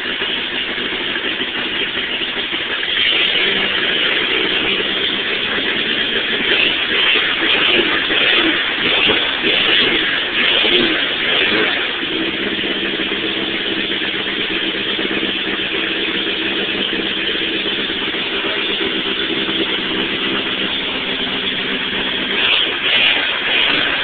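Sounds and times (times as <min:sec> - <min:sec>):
loud car engine rumble: 0:00.0 - 0:24.0.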